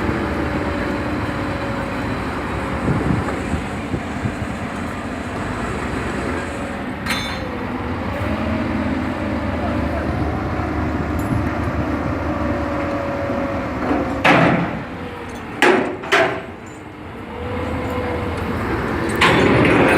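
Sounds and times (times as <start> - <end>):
engine-like running noise: 0.0 - 19.9.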